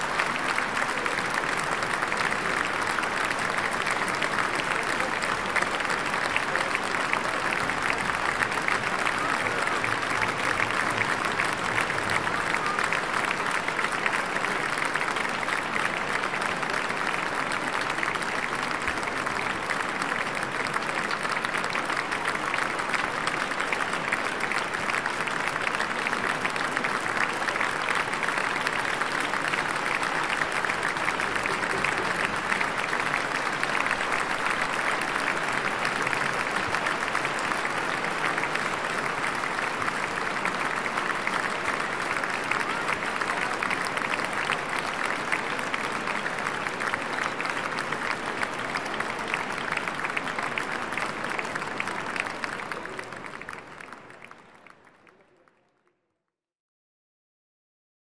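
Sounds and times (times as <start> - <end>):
audience applauding: 0.0 - 55.7.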